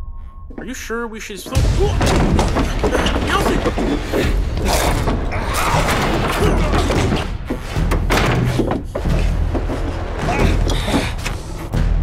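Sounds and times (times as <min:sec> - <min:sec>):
heavy thuds and slams: 0:01.5 - 0:11.4.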